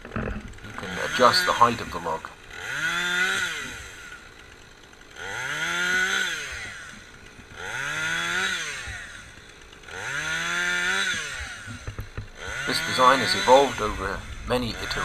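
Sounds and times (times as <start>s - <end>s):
chainsaw revving: 0.0s - 15.0s.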